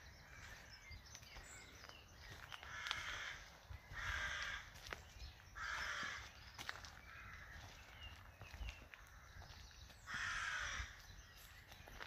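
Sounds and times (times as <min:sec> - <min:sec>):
faint outdoor background noise: 0:00.0 - 0:12.0
harsh bird calls: 0:00.0 - 0:12.0.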